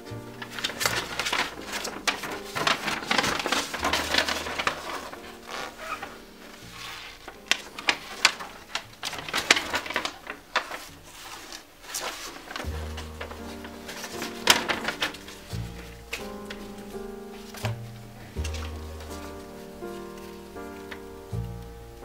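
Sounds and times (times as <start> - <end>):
paper leaflet rustling: 0.0 - 22.0.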